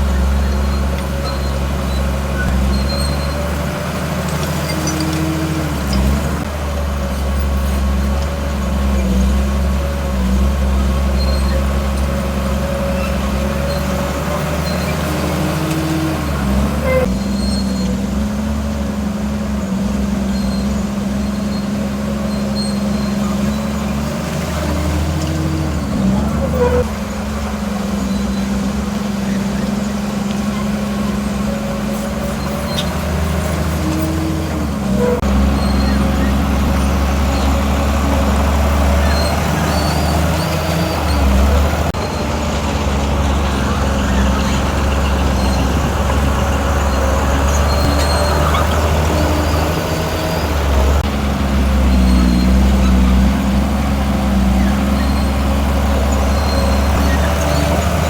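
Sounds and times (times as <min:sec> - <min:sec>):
heavy diesel machinery drone: 0:00.0 - 0:58.0.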